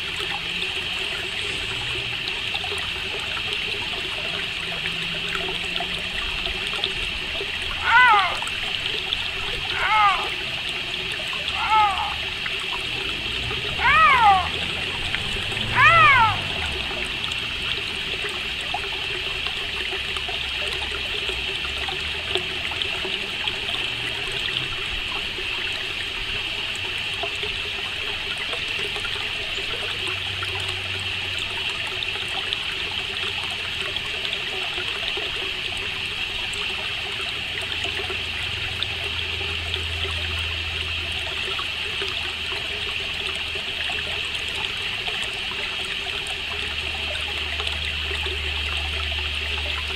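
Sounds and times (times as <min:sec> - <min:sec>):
water trickling: 0:00.0 - 0:49.9.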